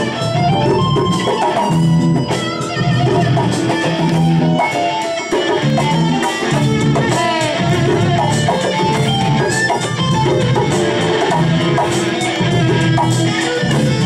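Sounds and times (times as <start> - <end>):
plucked string accompaniment: 0.0 - 14.0.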